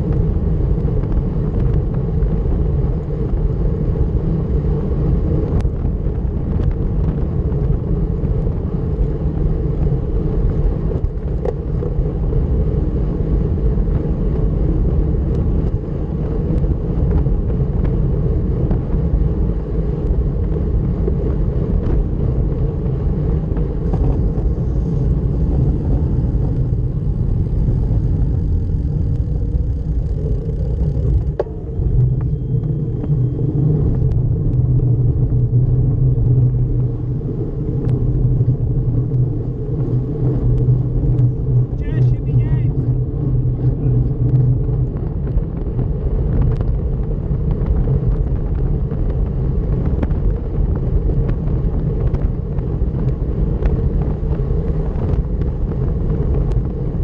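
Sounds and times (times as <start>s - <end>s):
bicycle tyre noise: 0.0s - 57.0s
wind rumble on microphone: 0.0s - 57.0s.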